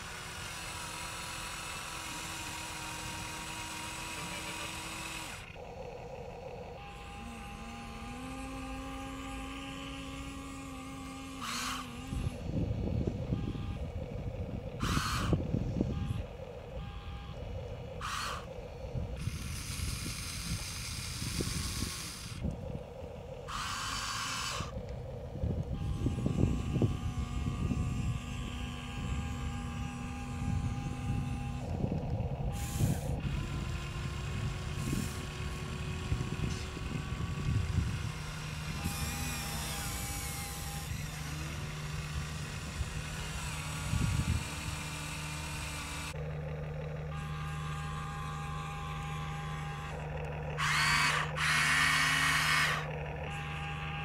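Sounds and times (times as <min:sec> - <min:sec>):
small electric motors whining: 0:00.0 - 0:54.0.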